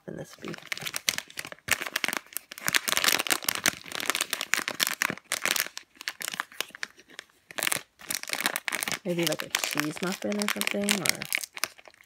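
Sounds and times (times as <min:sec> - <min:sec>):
plastic bag crinkling: 0:00.1 - 0:12.0.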